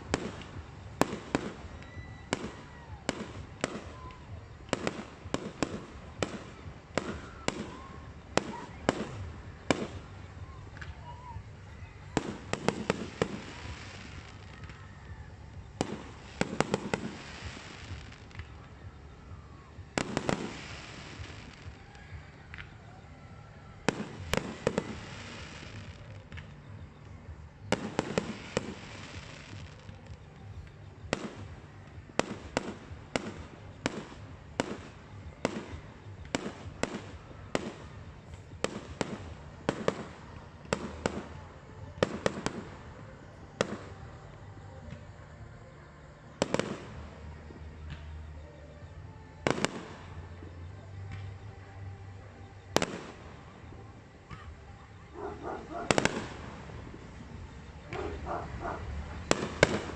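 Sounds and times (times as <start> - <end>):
fireworks bursting with bangs: 0.0 - 23.1, 23.8 - 59.9.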